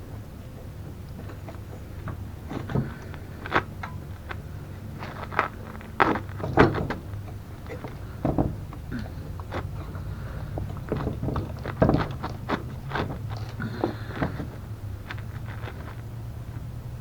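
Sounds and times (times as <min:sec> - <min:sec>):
knocks and clunks: 0:00.0 - 0:16.1
steady low hum: 0:00.0 - 0:17.0.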